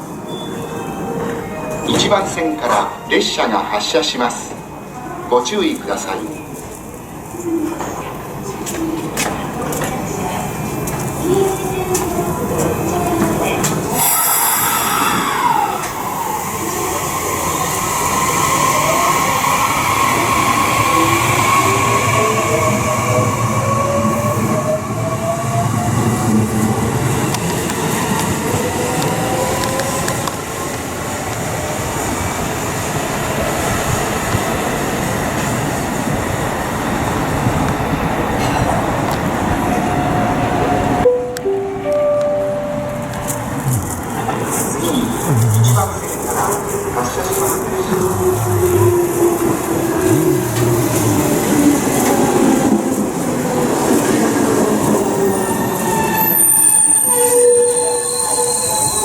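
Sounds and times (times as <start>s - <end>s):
electric train wheels rumbling: 5.7s - 59.0s.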